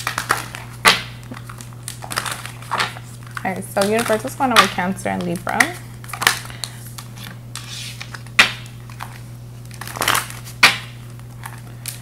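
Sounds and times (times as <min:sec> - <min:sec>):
cards shuffling: 0:00.0 - 0:12.0
low steady hum: 0:00.0 - 0:12.0.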